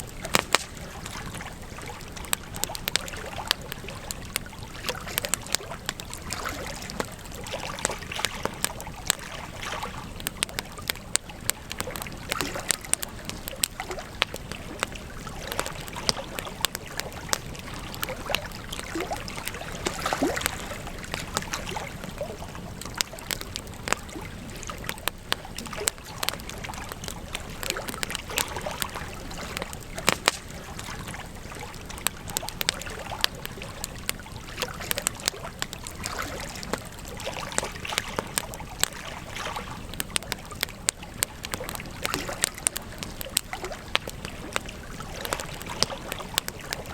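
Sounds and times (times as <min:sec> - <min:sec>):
campfire crackling and popping: 0:00.0 - 0:46.9
rush of burning fire: 0:00.0 - 0:46.9.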